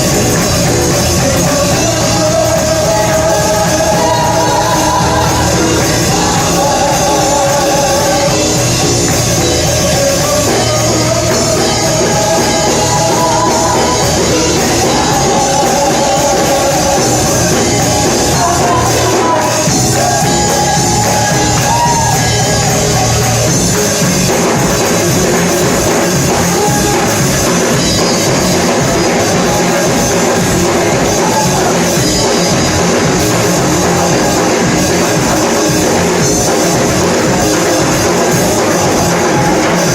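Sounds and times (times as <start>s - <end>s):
drum kit playing: 0.0s - 39.9s
voices singing: 0.0s - 39.9s.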